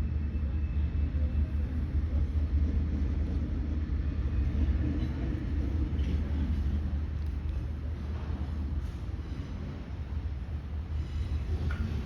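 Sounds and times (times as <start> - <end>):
freight train rumbling slowly: 0.0 - 12.0.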